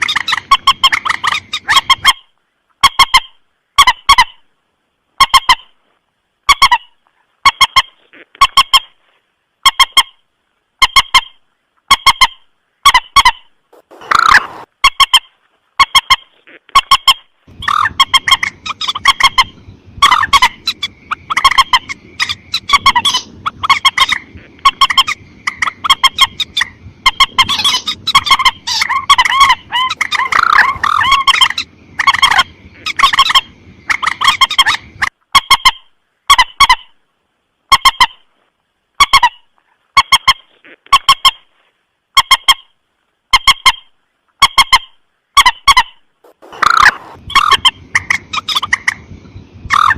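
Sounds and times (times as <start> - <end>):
low background hiss: 0.0 - 49.9.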